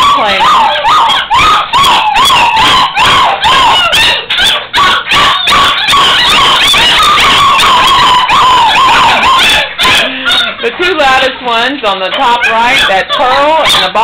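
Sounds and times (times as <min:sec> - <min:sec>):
puppy howling: 0:00.0 - 0:11.2, 0:11.8 - 0:14.0
puppies yipping and whining: 0:00.0 - 0:14.0.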